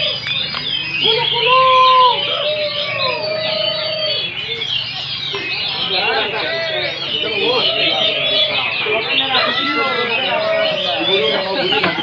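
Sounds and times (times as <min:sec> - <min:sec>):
drawn-out arched bird calls: 0:00.0 - 0:12.0
songbirds chattering chorus: 0:00.0 - 0:12.0.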